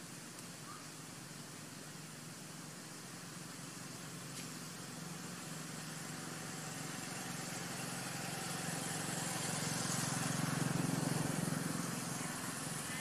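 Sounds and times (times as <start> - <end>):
motor engine humming: 1.1 - 13.0.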